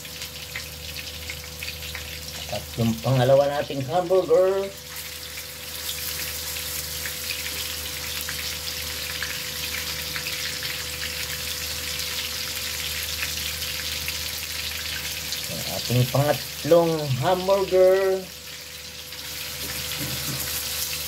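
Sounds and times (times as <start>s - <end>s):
burger patties sizzling in oil: 0.0s - 21.0s.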